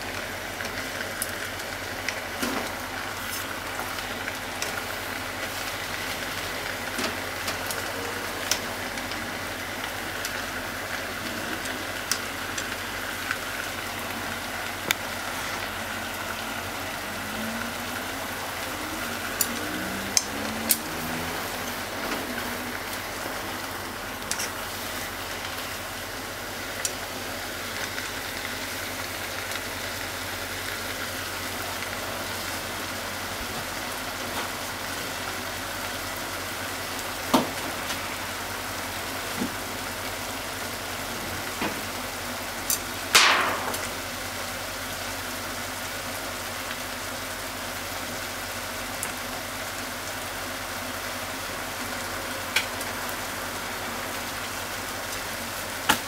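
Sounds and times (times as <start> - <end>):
chicken and onion sizzling: 0.0 - 56.0.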